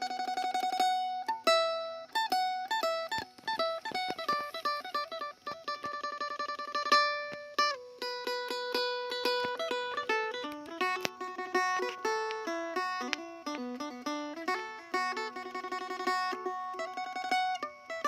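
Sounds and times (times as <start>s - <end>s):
plucked lute melody with drone: 0.0s - 18.0s.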